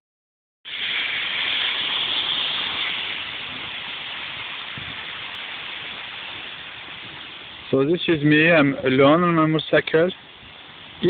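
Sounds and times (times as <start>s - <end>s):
rain hiss on street: 0.6s - 11.0s.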